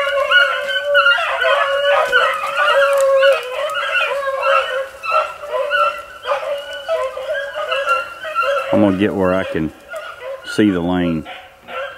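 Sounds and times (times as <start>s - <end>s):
hounds baying: 0.0s - 11.9s.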